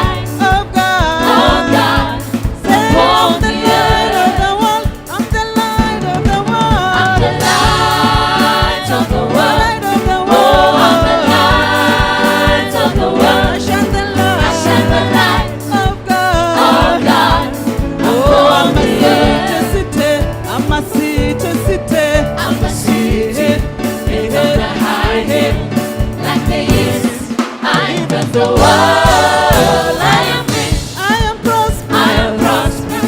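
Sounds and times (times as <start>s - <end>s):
choir singing: 0.0s - 4.9s, 6.9s - 20.2s, 22.4s - 33.0s
band with steady beat: 0.0s - 33.0s.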